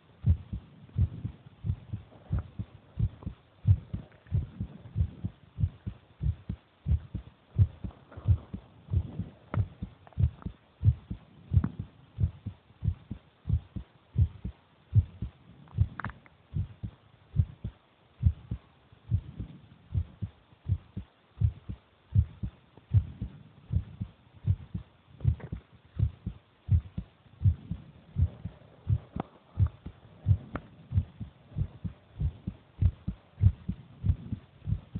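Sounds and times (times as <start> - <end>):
human heartbeat: 0.0 - 34.9.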